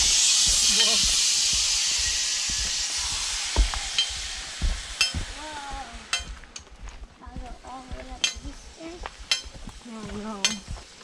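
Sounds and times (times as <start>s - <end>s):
footsteps crunching on gravel: 0.0s - 11.0s
steady high hiss: 0.0s - 11.0s.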